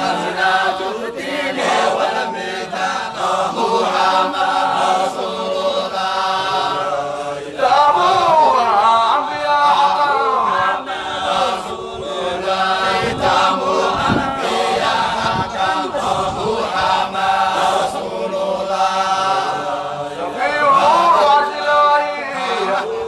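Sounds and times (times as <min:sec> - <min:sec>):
voices chanting together: 0:00.0 - 0:23.0.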